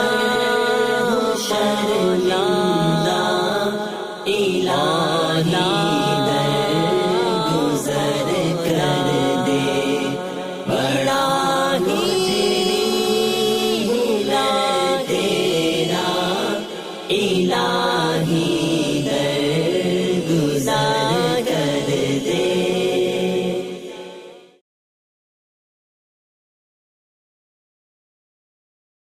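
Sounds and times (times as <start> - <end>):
voices chanting devotional melody: 0.0 - 24.6.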